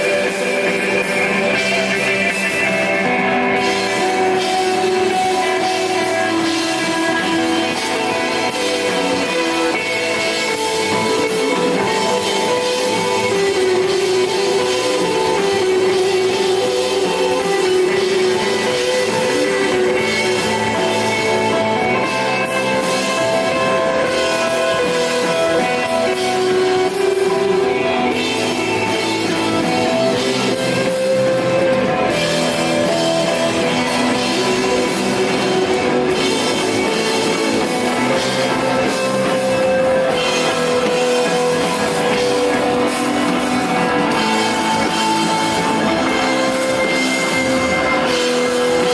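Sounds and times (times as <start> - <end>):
bass guitar: 0.0 - 48.9
drum kit with cymbals: 0.0 - 48.9
electric guitar sustained notes: 0.0 - 48.9.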